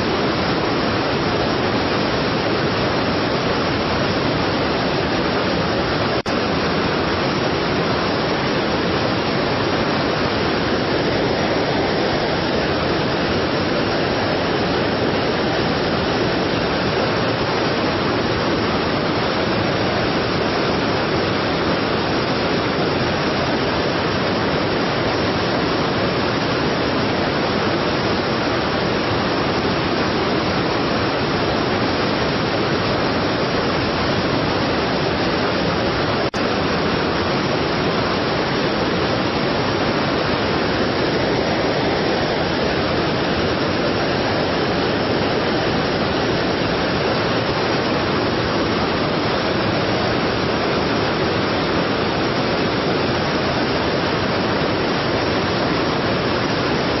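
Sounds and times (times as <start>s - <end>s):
heavy waterfall rushing: 0.0s - 57.0s.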